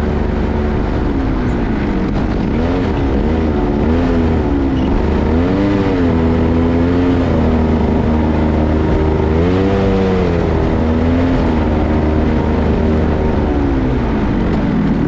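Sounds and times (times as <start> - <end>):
go-kart engine running hard: 0.0 - 15.0.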